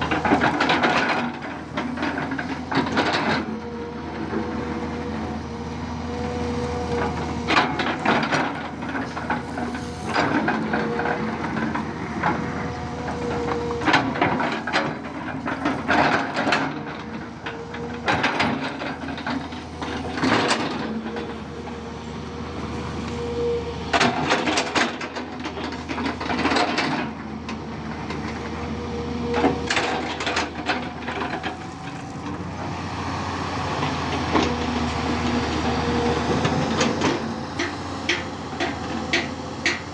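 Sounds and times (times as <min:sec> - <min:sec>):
excavator engine and hydraulics whine: 0:00.0 - 0:39.9.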